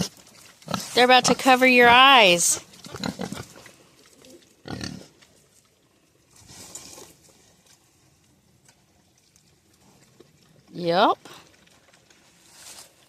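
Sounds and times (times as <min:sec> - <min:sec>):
pigs snuffling: 0:00.0 - 0:13.0.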